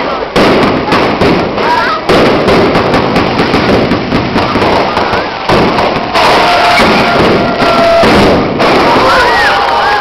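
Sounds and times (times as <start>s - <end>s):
fireworks bangs: 0.0s - 10.0s
fireworks crackling and popping: 0.0s - 10.0s.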